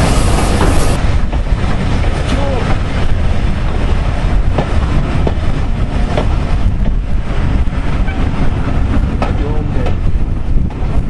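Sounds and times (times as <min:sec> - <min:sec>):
train wheels rumbling on rails: 0:00.0 - 0:11.0
wheels clicking over rail joints: 0:00.0 - 0:11.0.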